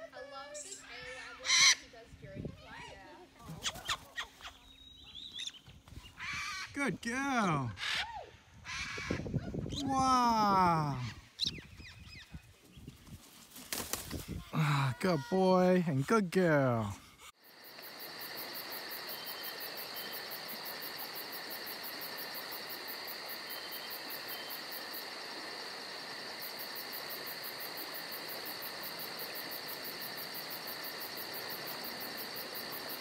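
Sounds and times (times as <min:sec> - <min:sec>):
insect chorus pulsing: 0:06.3 - 0:33.0.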